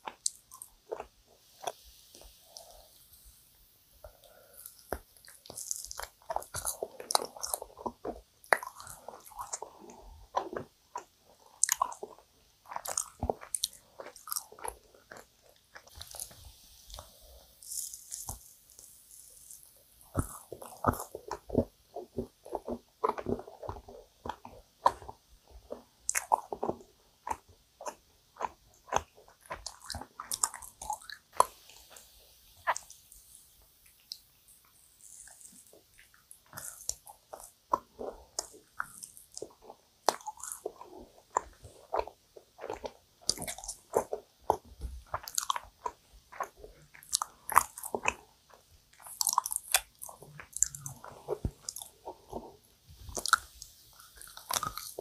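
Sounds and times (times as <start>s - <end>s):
sticky chewing: 0.0s - 2.8s, 4.0s - 55.0s.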